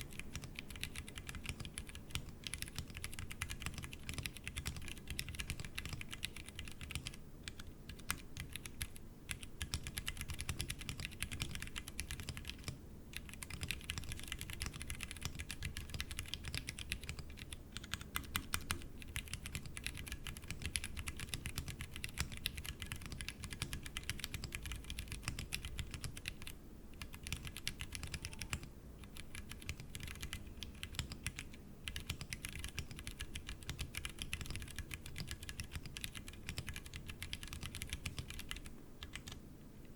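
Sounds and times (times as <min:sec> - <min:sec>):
fast typing on mechanical keyboard: 0:00.0 - 0:39.4.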